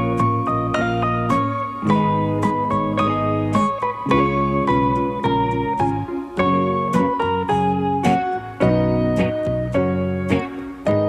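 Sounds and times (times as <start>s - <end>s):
instrumental music chords: 0.0s - 11.0s.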